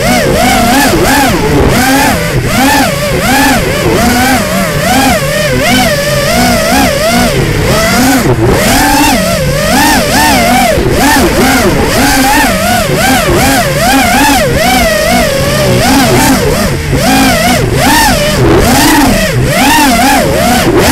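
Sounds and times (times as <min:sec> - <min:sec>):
drone motors whining: 0:00.0 - 0:20.9.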